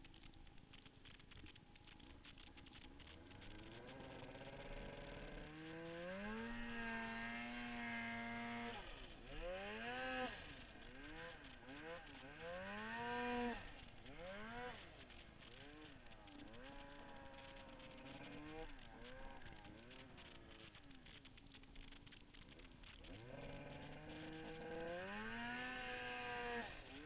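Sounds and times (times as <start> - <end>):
snowmobile engine revving: 2.3 - 27.0.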